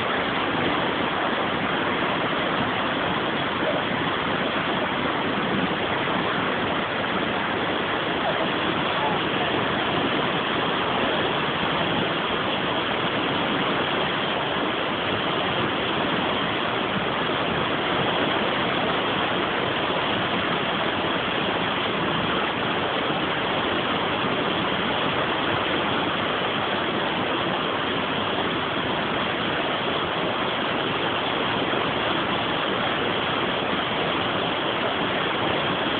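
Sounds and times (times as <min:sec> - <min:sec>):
water rushing over a weir: 0:00.0 - 0:35.9.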